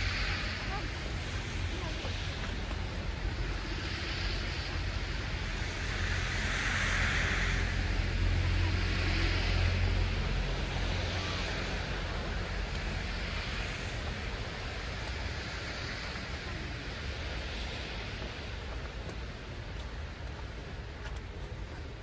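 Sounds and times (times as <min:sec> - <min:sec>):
engines rumbling: 0:00.0 - 0:22.0
tyres hissing on wet road: 0:00.0 - 0:22.0.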